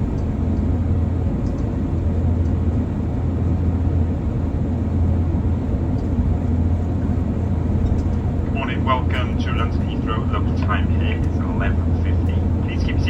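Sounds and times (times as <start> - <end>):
aircraft cabin noise while taxiing: 0.0 - 13.0.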